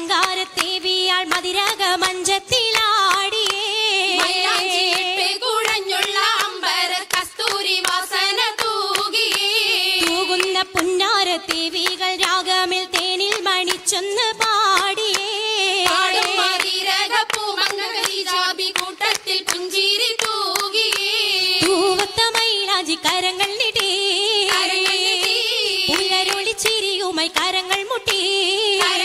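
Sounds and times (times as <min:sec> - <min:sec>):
rhythmic hand-clapping: 0:00.0 - 0:29.0.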